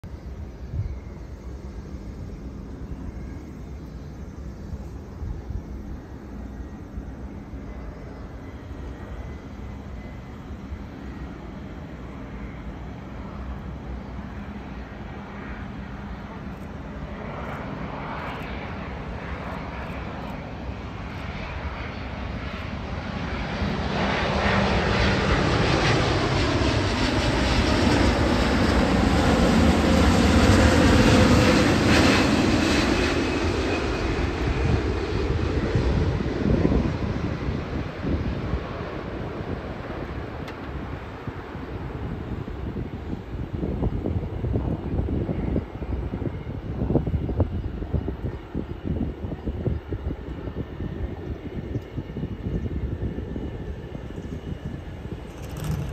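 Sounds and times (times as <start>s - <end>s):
jet engines of landing airliner: 0.0s - 55.9s.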